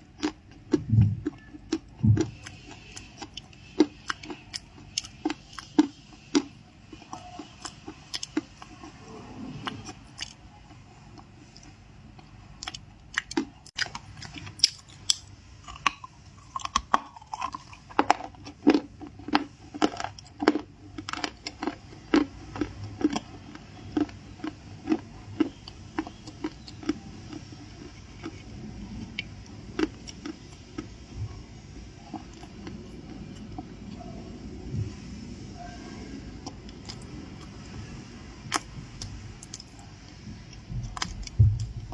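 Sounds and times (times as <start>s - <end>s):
crunchy cookie chewing: 0.0s - 34.4s, 36.2s - 41.9s.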